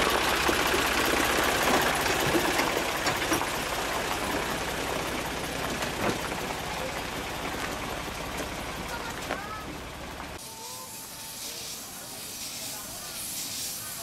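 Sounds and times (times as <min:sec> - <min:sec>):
tractor engine running: 0:00.0 - 0:13.8.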